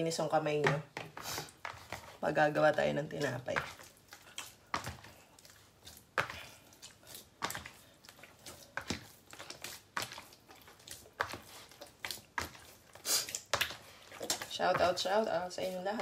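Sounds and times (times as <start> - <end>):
hands kneading wet dough: 0.0 - 16.0.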